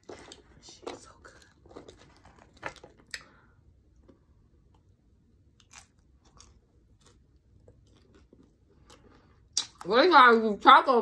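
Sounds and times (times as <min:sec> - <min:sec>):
faint crunching and chewing: 0:00.0 - 0:10.0.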